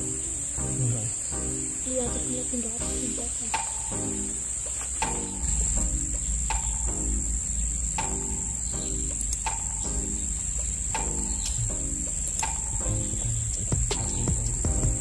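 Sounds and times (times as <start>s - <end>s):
high-pitched insect drone: 0.0s - 15.0s
repeating background music: 0.0s - 15.0s.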